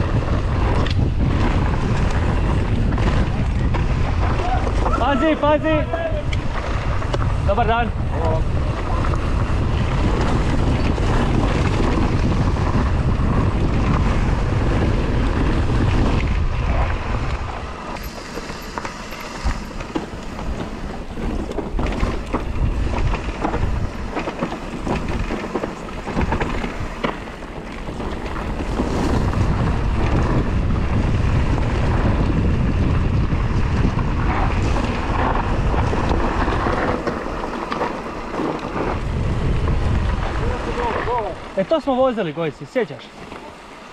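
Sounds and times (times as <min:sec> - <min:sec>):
bike knocks and rattles: 0:00.0 - 0:41.4
wind buffeting microphone: 0:00.0 - 0:42.6
tyre noise on dirt: 0:00.0 - 0:43.9.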